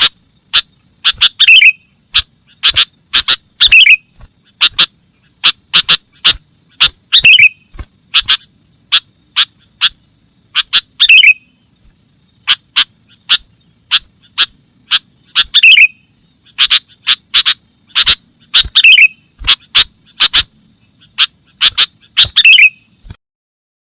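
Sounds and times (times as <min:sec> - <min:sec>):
bird call notes: 0:00.0 - 0:11.8, 0:12.4 - 0:23.2
high insect buzz: 0:00.0 - 0:23.2.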